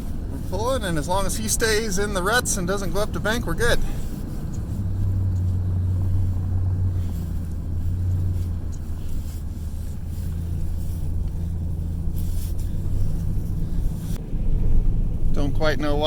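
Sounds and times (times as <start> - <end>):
vehicle engine running under load: 0.0 - 16.0.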